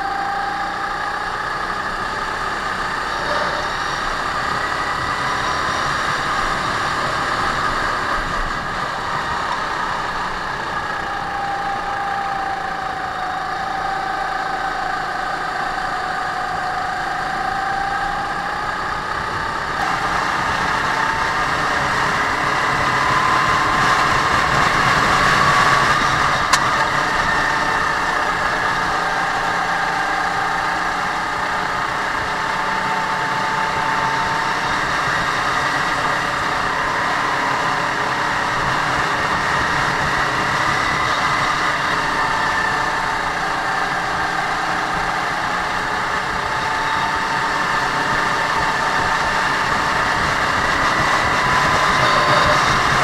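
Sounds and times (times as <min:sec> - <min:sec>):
racing kart engine: 0:00.0 - 0:53.0.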